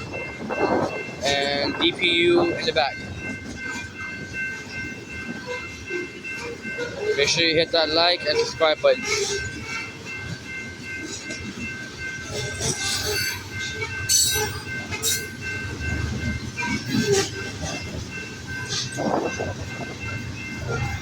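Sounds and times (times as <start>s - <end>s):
train cars rumbling past: 0.0s - 21.0s
wheels and couplers clanking: 0.0s - 21.0s.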